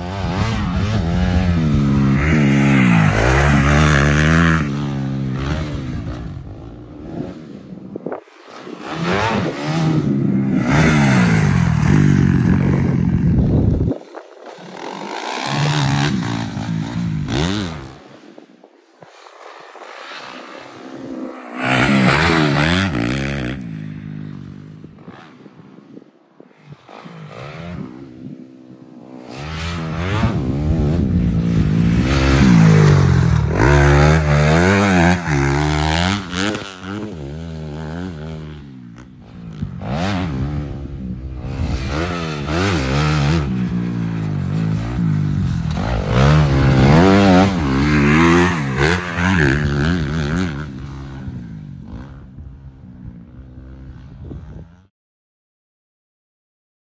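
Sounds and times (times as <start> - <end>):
dirt bike engine revving: 0.0 - 18.1, 20.1 - 25.4, 26.7 - 52.4.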